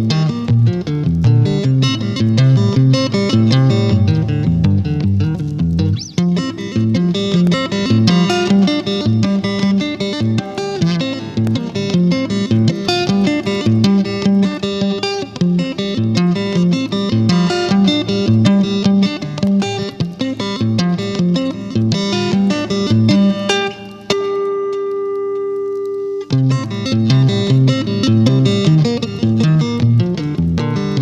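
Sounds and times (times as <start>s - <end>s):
electric guitar playing: 0.0s - 31.0s.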